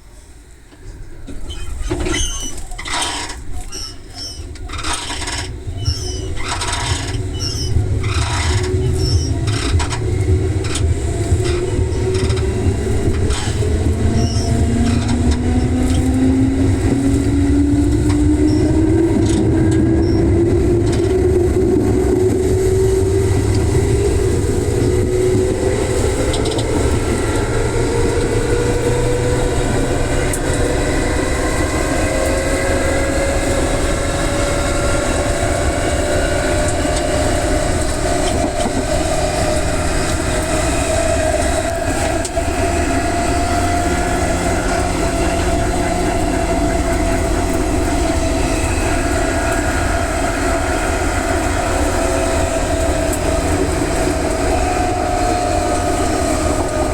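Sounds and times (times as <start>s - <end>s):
train car running noise: 0.0s - 56.9s
electric train motor hum rising: 1.9s - 56.9s.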